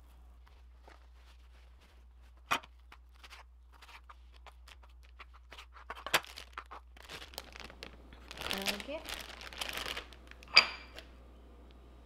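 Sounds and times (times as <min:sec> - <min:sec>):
plastic bag crinkling: 0:00.4 - 0:11.1.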